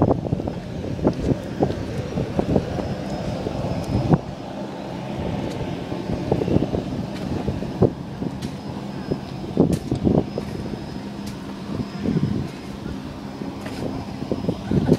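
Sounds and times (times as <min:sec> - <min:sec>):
aircraft engine drone: 0:00.0 - 0:14.9.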